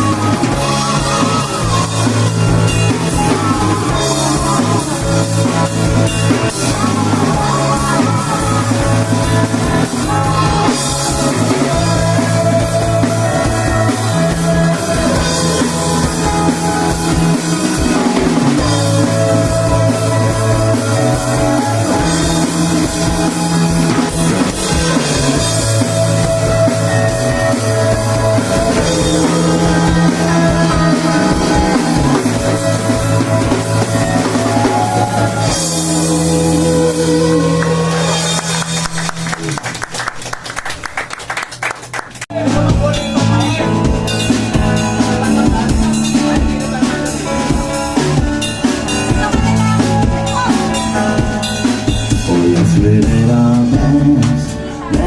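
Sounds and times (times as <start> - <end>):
bass notes: 0.0 - 40.2, 42.2 - 55.0
drum kit: 0.0 - 55.0
electric guitars: 0.0 - 55.0.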